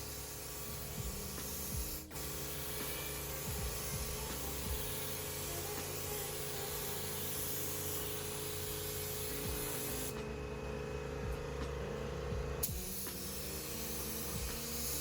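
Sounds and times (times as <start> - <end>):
spray gun hissing: 0.0 - 10.2, 12.7 - 15.0
steady hum: 0.0 - 15.0.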